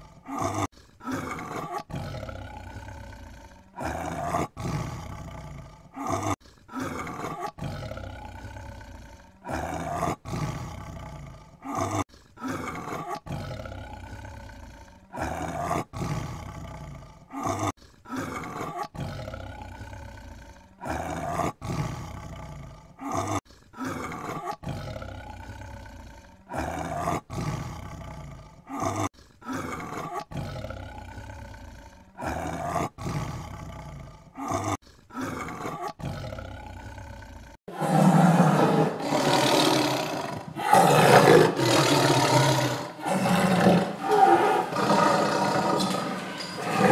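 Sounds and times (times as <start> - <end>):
tiger roaring: 0.0 - 46.9.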